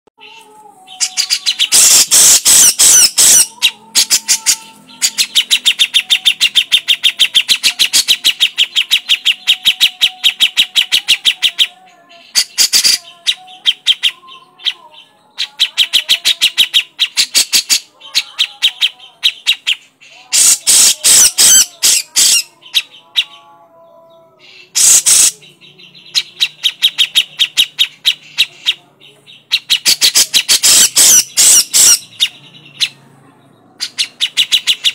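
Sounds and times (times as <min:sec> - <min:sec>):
bird harsh chattering call: 0:00.3 - 0:11.7, 0:12.3 - 0:14.8, 0:15.4 - 0:23.4, 0:24.5 - 0:33.0, 0:33.8 - 0:34.9.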